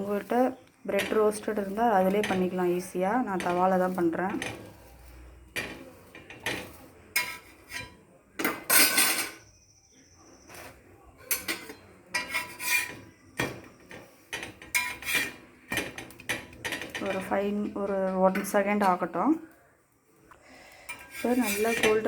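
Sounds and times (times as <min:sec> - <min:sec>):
metal utensil scraping on griddle: 0:00.0 - 0:09.5, 0:10.3 - 0:19.2, 0:20.6 - 0:22.0.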